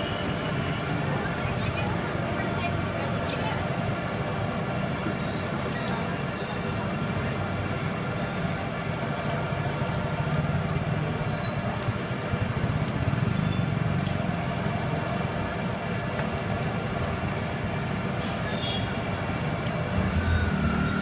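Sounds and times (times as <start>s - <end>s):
hot oil sizzling: 0.1s - 21.0s.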